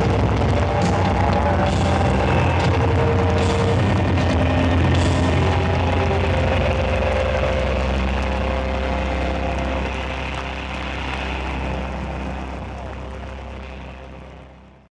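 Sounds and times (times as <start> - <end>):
rock band drone: 0.0 - 14.9.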